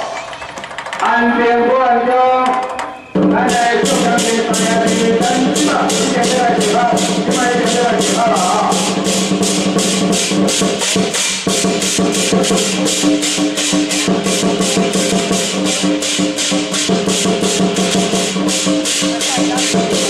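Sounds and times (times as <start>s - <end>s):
fast shaker beat: 3.4s - 20.0s.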